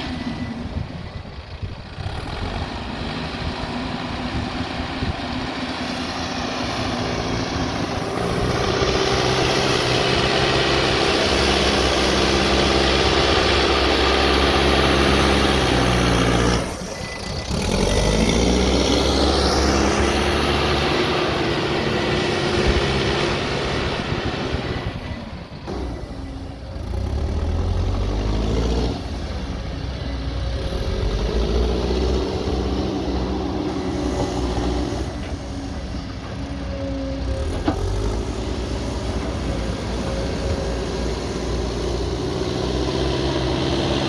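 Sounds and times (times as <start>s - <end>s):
diesel engine revving under load: 0.0s - 44.0s.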